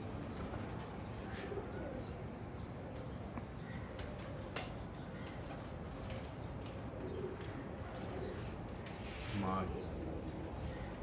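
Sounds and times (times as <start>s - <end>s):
background hiss: 0.0s - 11.0s
pigeons cooing: 0.1s - 2.2s, 2.8s - 11.0s.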